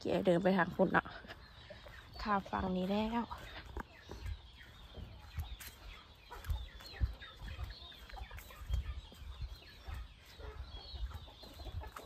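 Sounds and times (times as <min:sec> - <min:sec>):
chickens clucking: 0:00.0 - 0:12.0
footsteps on dry leaf litter: 0:00.0 - 0:12.0.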